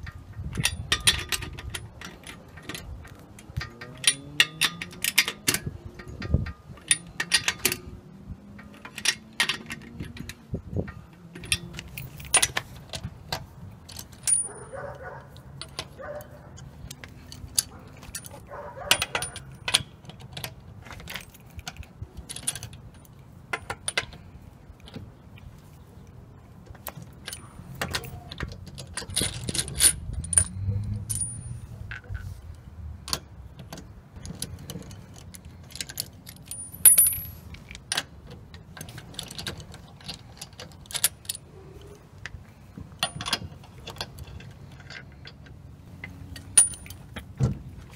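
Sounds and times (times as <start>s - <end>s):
metal lug nuts and wrench clinking: 0.0s - 47.9s.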